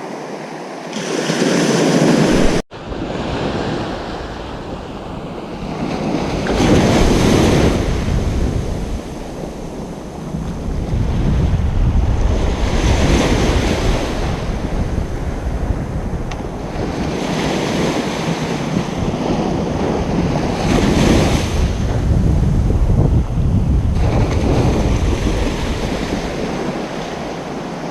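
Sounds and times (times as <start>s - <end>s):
surf breaking on a beach: 0.0s - 27.9s
low rumble of sea: 1.4s - 27.9s.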